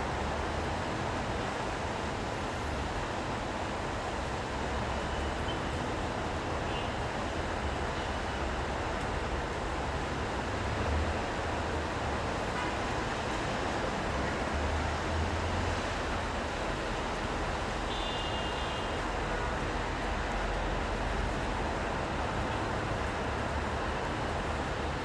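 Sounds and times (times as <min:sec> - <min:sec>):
rain and tyres on wet road: 0:00.0 - 0:25.0.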